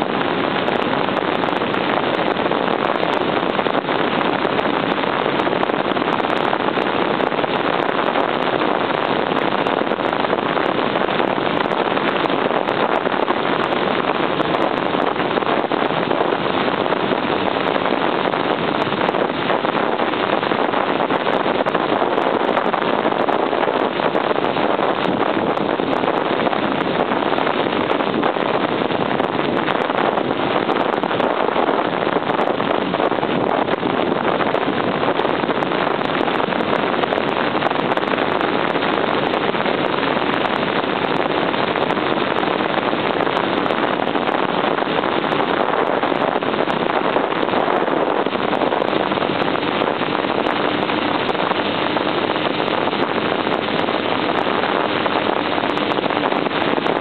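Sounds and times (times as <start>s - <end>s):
wind over microphone: 0.0s - 57.0s.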